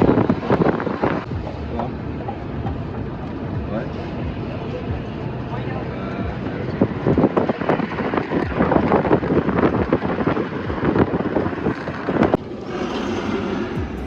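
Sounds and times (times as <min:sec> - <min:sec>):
vehicle running noise: 0:00.0 - 0:14.0
wind buffeting microphone: 0:00.0 - 0:14.0.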